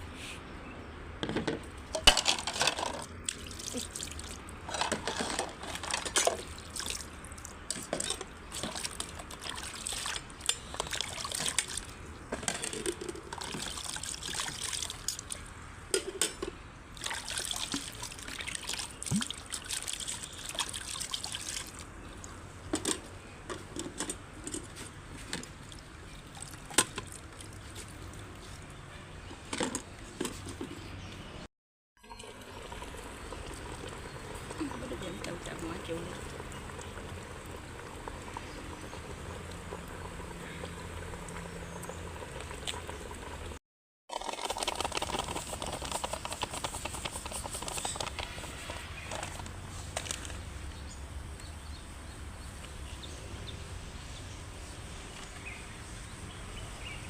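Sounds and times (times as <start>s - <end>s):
water pouring and trickling: 1.9s - 15.5s, 16.9s - 29.3s, 32.0s - 52.9s.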